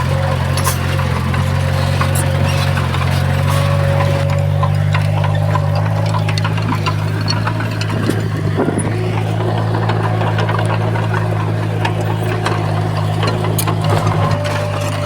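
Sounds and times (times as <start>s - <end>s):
bulldozer diesel engine drone: 0.0s - 15.0s
metallic clanks and clicks: 0.0s - 15.0s.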